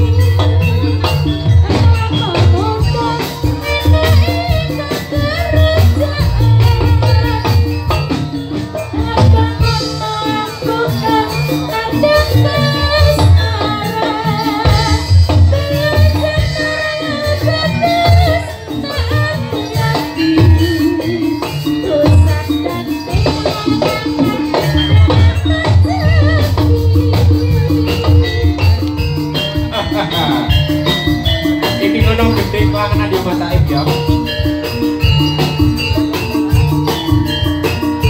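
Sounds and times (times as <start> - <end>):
percussion ensemble music: 0.0 - 38.0
wavering melody line: 0.0 - 38.0.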